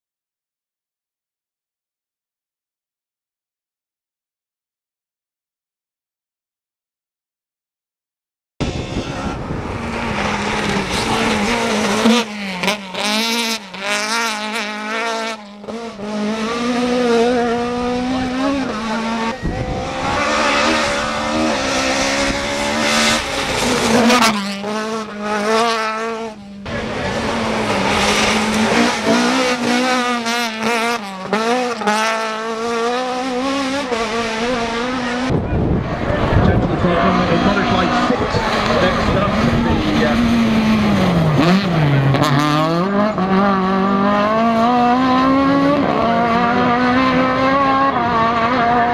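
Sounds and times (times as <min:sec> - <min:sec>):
rally car engine revving: 0:08.6 - 0:48.9.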